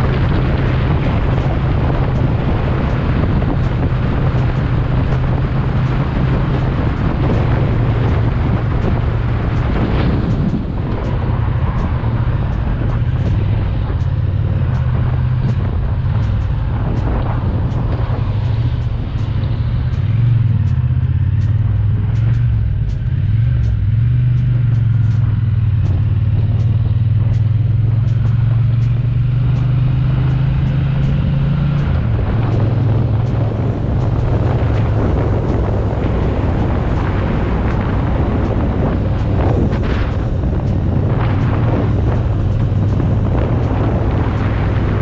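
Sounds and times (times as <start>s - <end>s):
motorcycle engine running: 0.0s - 45.0s
wind noise: 0.0s - 45.0s.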